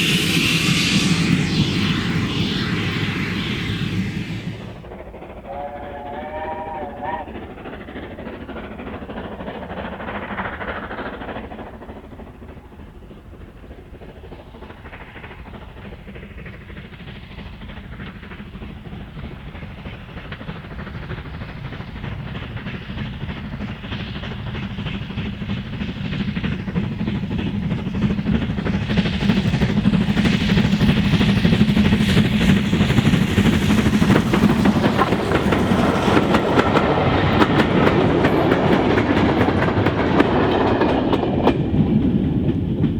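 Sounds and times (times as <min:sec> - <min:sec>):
steam train approaching: 0:00.0 - 0:42.9.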